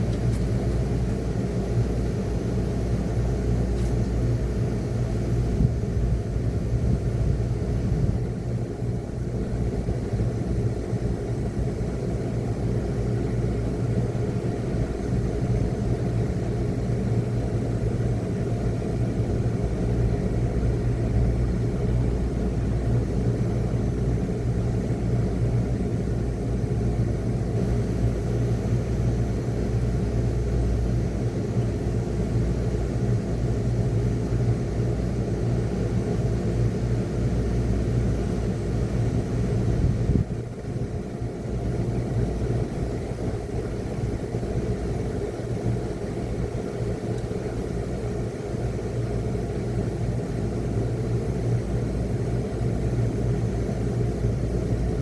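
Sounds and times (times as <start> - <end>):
window air conditioner humming: 0.0 - 55.0.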